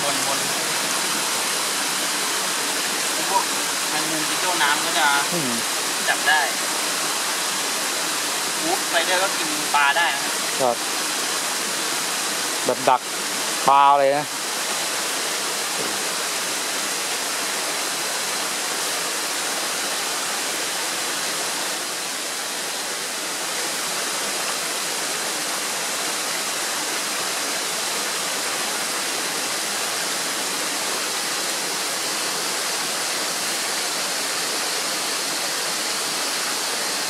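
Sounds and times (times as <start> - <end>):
stream rushing over rocks: 0.0 - 37.0.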